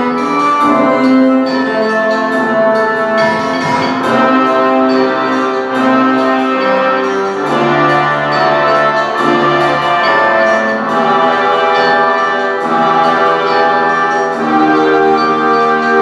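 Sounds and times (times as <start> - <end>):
orchestral music with brass: 0.0 - 16.0.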